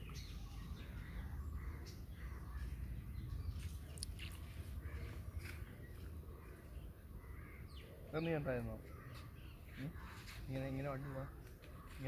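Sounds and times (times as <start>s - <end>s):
faint bird calls: 0.0s - 12.0s.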